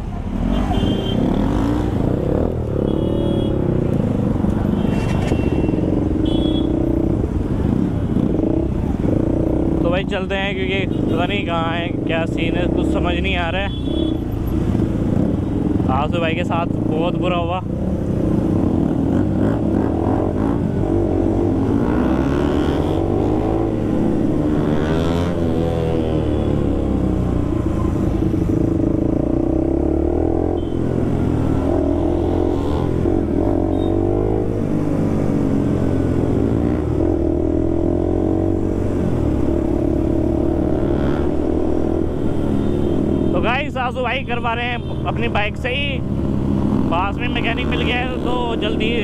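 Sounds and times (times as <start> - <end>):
motorcycle engines revving: 0.0 - 49.0.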